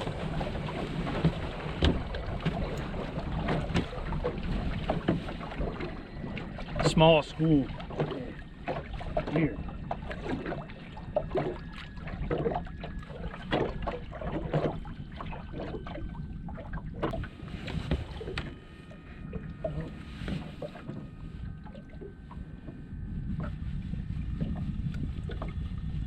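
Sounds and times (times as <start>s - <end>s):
boat motor rumbling: 0.0s - 26.0s
water slapping against hull: 0.0s - 26.0s.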